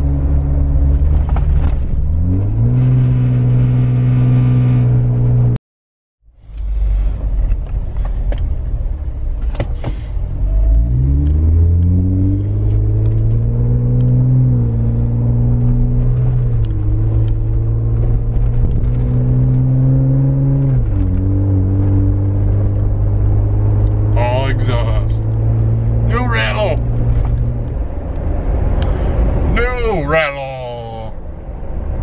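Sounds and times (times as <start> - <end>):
car engine accelerating: 0.0 - 5.6, 6.4 - 32.0.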